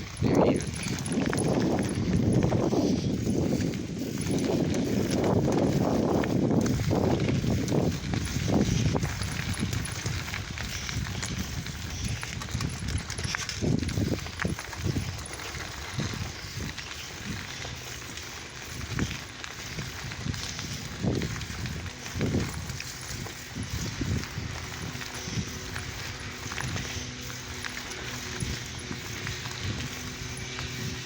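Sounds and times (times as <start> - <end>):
bicycle knocks and rattles: 0.0 - 31.0
wind on microphone: 0.0 - 31.0.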